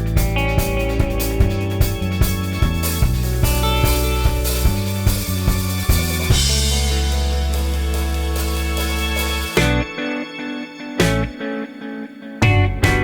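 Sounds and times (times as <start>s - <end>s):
band music with drums: 0.0s - 10.2s, 11.0s - 11.4s, 12.4s - 13.0s.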